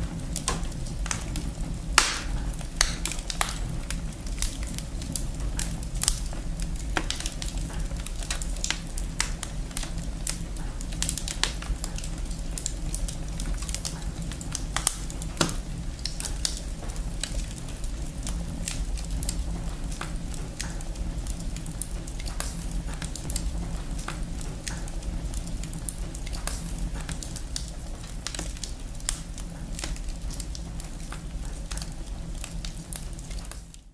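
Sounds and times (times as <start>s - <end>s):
steady low rumble: 0.0s - 33.3s
wood fire crackling and popping: 0.0s - 33.9s.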